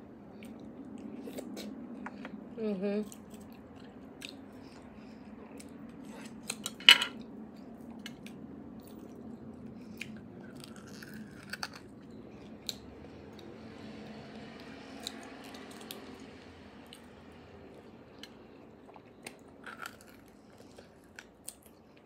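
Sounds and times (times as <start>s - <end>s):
close-miked eating noises: 0.0s - 22.0s
faint low hum: 0.0s - 22.0s.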